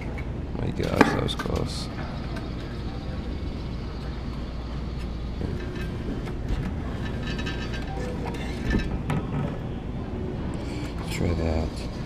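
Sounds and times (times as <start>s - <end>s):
game machines humming: 0.3s - 12.0s.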